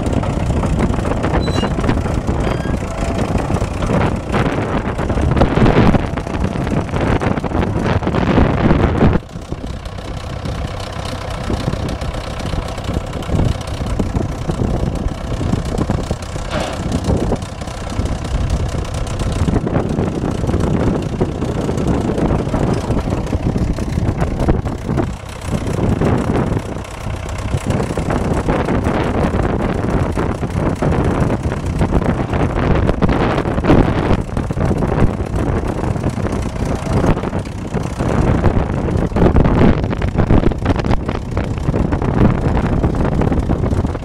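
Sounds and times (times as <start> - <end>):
crawler tractor engine running: 0.0 - 44.0.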